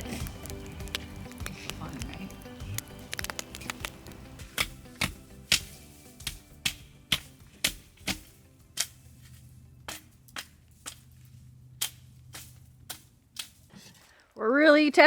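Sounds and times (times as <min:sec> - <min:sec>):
campfire crackling: 0:00.0 - 0:13.7.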